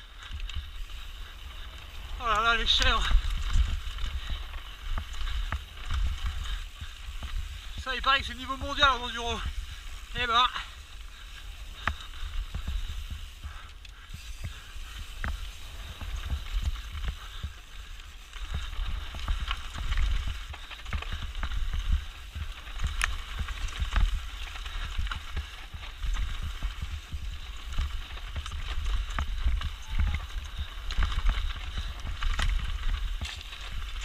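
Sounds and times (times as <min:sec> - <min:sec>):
bike clicks and rattles: 0:00.0 - 0:34.0
low rumble of tyres on trail: 0:00.0 - 0:34.0.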